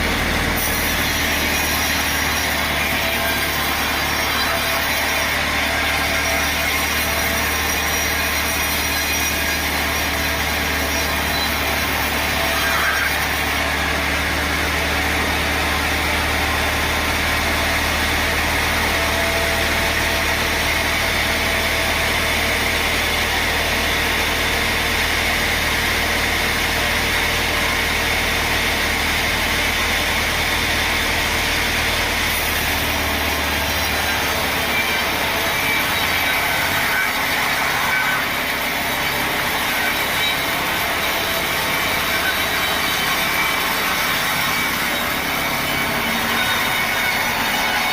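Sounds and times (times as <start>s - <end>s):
saw cutting wood: 0.0s - 47.9s
sawmill machinery running: 0.0s - 47.9s.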